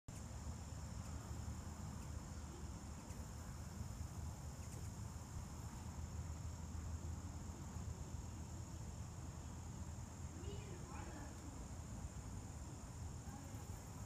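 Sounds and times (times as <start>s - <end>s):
insects trilling: 0.1s - 14.0s.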